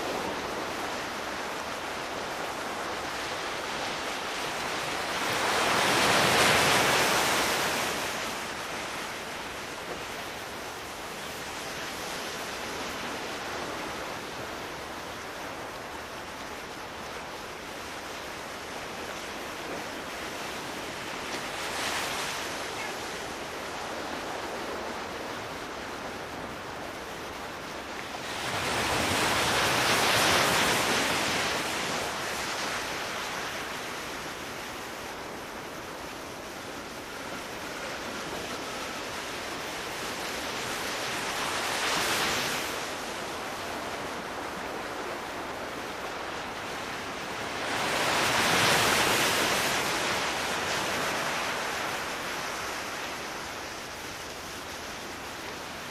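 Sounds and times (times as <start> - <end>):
sea waves washing in: 0.0 - 55.9.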